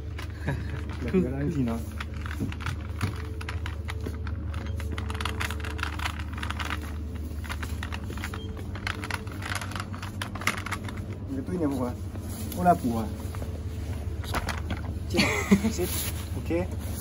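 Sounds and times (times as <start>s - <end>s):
refrigerator hum: 0.0s - 17.0s.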